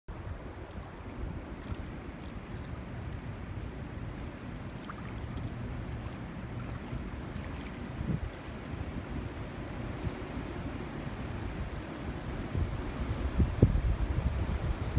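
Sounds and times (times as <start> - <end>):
water lapping at shoreline: 0.1 - 14.9
wind rumble on microphone: 0.1 - 14.9.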